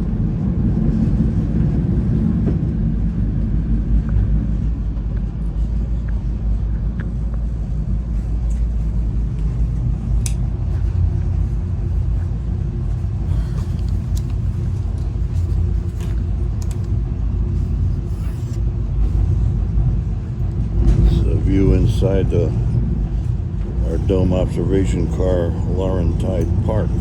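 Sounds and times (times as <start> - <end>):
railcar rumbling on track: 0.0 - 27.0.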